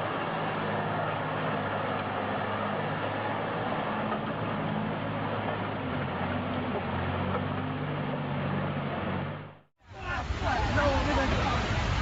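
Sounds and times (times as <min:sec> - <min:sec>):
road noise hiss: 0:00.0 - 0:12.0
truck engine running: 0:00.0 - 0:12.0.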